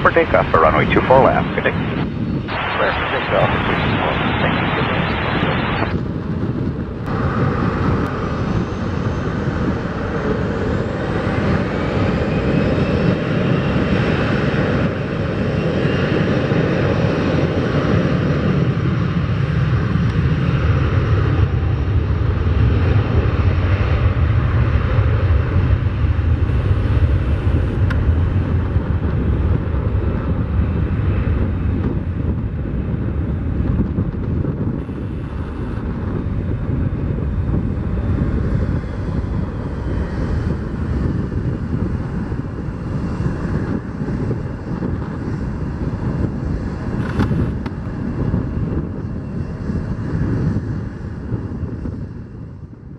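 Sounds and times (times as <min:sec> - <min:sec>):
jet engines roaring: 0:00.0 - 0:52.1.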